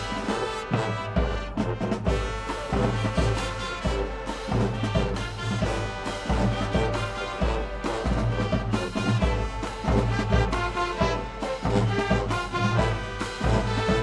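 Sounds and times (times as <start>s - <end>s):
heavy drum beat: 0.0s - 14.0s
marching band brass section: 0.0s - 14.0s.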